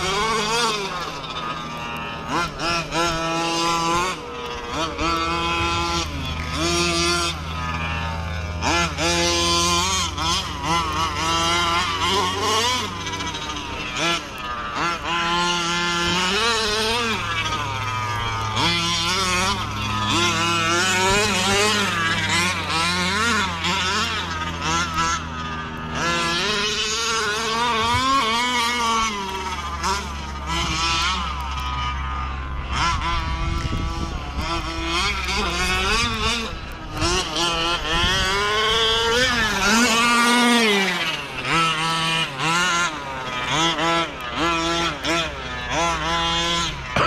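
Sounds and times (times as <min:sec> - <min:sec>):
two-stroke engine revving: 0:00.0 - 0:47.0.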